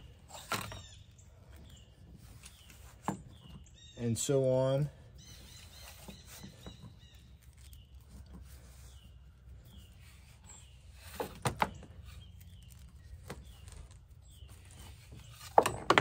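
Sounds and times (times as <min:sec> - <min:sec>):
wire sleeving handling noise: 0:00.0 - 0:03.7, 0:05.3 - 0:16.0
faint birds chirping: 0:00.0 - 0:16.0.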